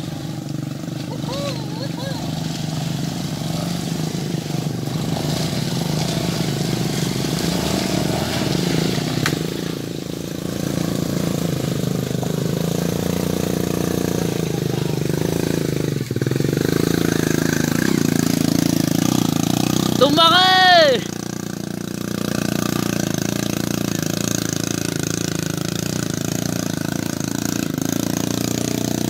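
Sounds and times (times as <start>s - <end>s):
small motorcycle engines revving: 0.0s - 29.0s
steady engine drone: 0.0s - 29.0s.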